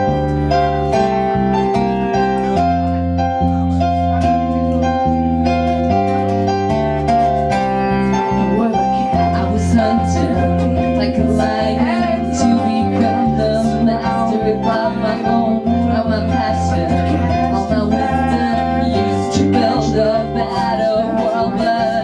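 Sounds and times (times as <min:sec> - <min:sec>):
electric guitar: 0:00.0 - 0:22.0
held keyboard notes: 0:00.0 - 0:22.0.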